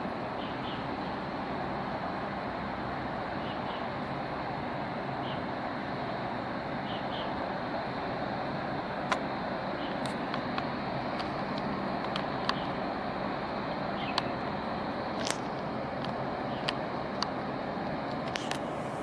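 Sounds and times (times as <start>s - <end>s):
outdoor rumble and hiss: 0.0s - 19.0s.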